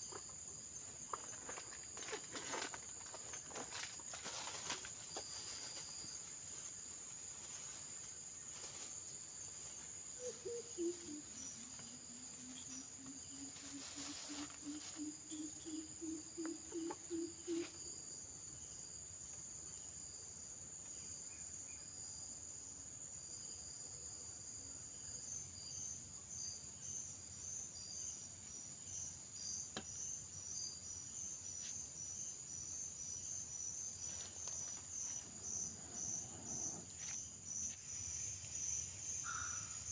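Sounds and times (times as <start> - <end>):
insects chorus: 0.0 - 39.9
rapid pulsed insect chirping: 0.0 - 39.9.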